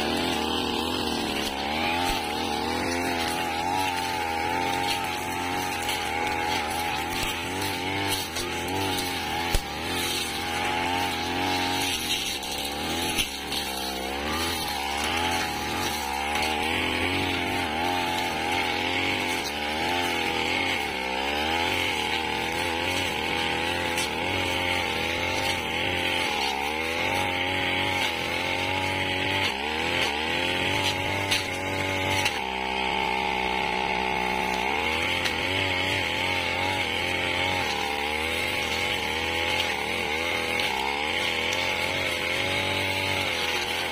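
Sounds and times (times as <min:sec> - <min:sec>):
brush cutter engine at high revs: 0:00.0 - 0:43.9.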